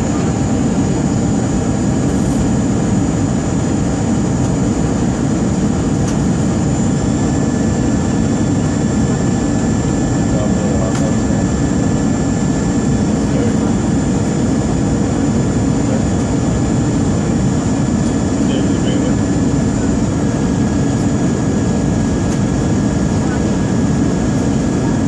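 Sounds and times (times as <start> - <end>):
jet engines low rumble: 0.0 - 25.0
thin steady whines: 0.0 - 25.0.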